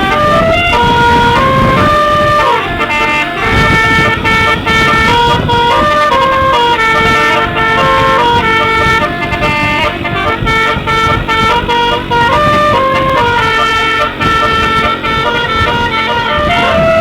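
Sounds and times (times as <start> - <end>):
bus musical horn playing a tune: 0.0 - 17.0.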